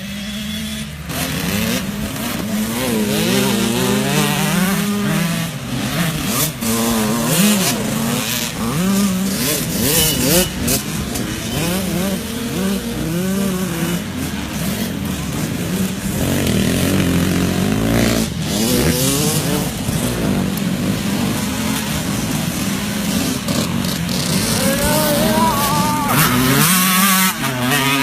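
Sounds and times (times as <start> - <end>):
dirt bikes racing: 0.0 - 28.0.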